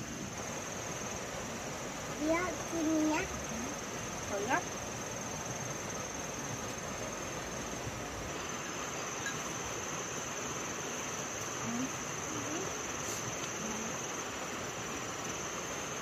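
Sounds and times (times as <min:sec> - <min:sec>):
background hiss: 0:00.0 - 0:16.0
insect chirring: 0:00.0 - 0:16.0.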